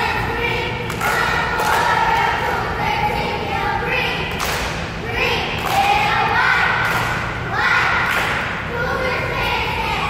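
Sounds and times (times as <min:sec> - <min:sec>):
girls chanting a cheer: 0:00.0 - 0:10.0.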